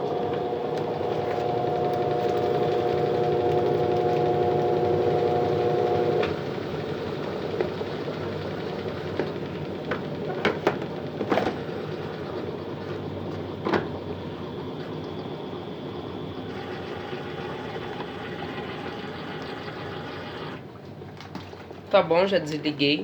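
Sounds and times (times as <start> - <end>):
low hum: 0.0 - 20.6
washing machine whine: 0.0 - 23.0.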